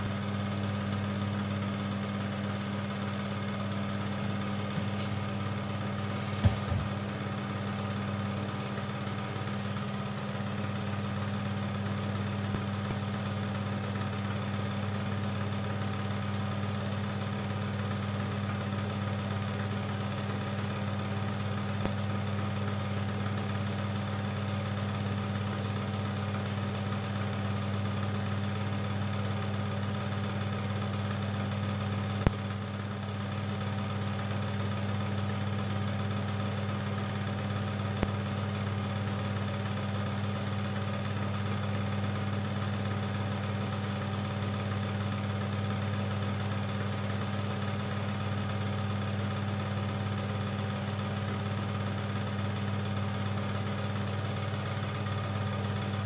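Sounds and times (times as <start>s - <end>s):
film projector humming: 0.0s - 56.0s.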